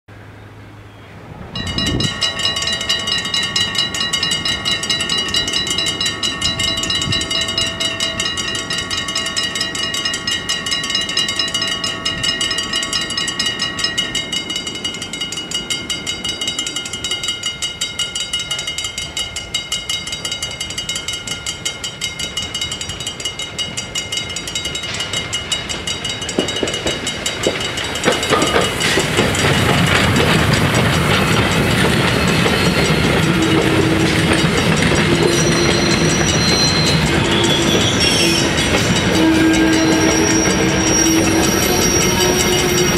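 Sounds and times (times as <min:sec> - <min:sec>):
steam train rumble: 0:00.1 - 0:42.9
level-crossing bells clanging: 0:01.6 - 0:42.9.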